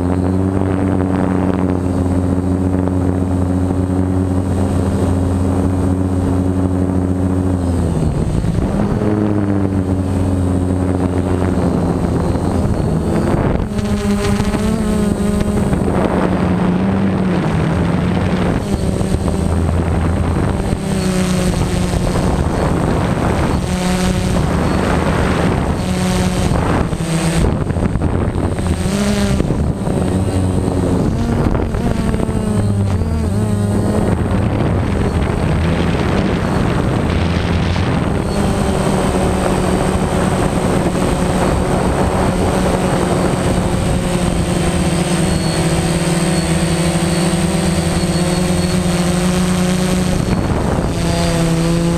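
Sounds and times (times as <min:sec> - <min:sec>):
drone motors buzzing: 0:00.0 - 0:51.9.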